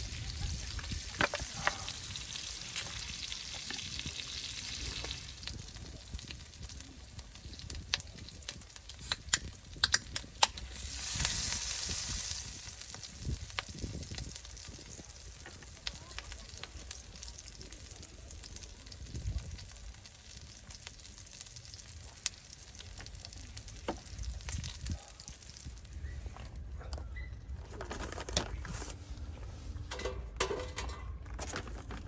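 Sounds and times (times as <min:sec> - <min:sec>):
meat sizzling: 0:00.0 - 0:25.9
sharp pops and crackles: 0:00.1 - 0:26.6.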